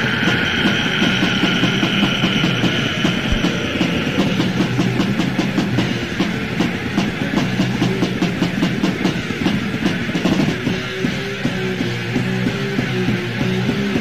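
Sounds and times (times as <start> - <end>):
distorted guitar: 0.0 - 14.0
fast drumming: 0.0 - 14.0.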